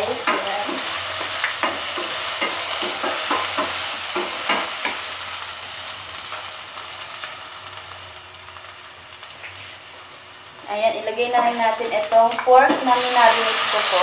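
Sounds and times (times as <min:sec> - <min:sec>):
garlic and onion sizzling in oil: 0:00.0 - 0:14.0.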